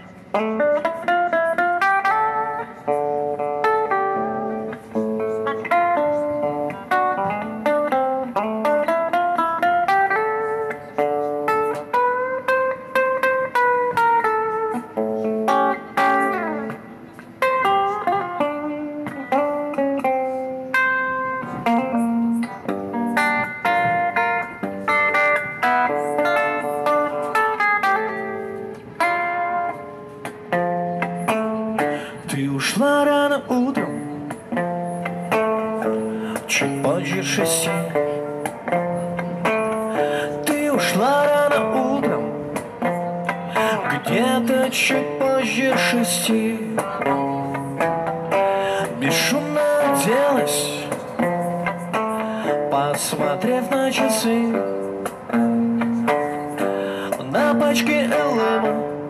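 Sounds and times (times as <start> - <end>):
electric guitar melody with bends: 0.0 - 59.0.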